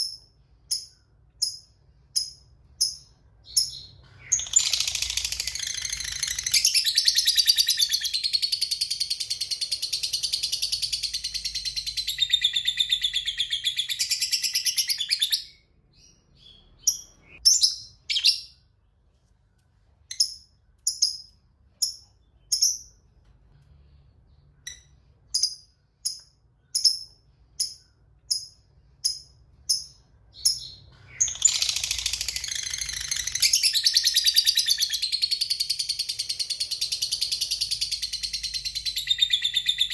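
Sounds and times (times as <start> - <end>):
sharp bird chirps: 0.0 - 18.8, 24.3 - 39.9.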